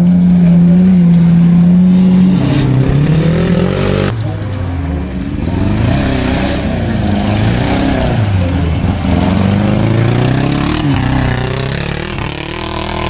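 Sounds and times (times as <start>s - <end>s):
engine revving under load: 0.0s - 4.2s, 5.2s - 13.0s.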